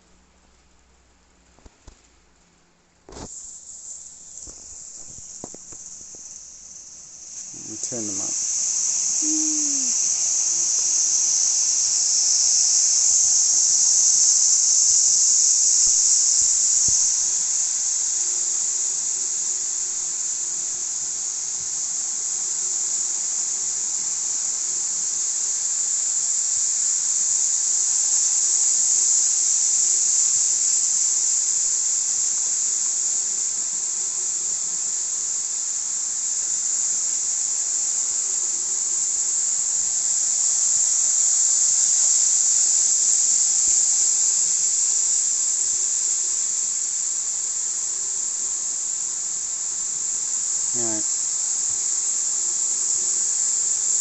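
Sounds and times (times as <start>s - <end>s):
model trains hissing and whining: 3.1s - 54.0s.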